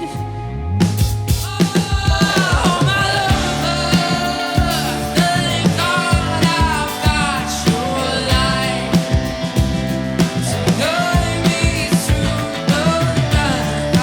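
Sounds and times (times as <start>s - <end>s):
rock band playing: 0.8s - 14.0s
drum kit hits: 0.9s - 14.0s.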